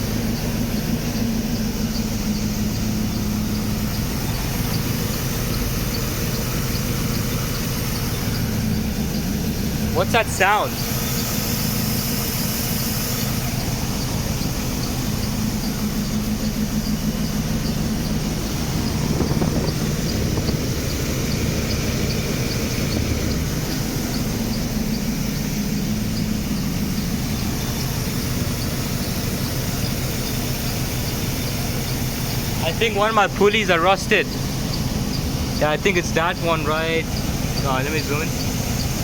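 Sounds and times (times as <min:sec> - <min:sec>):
car engine running: 0:00.0 - 0:39.0
high-pitched pulley chirp: 0:00.0 - 0:39.0.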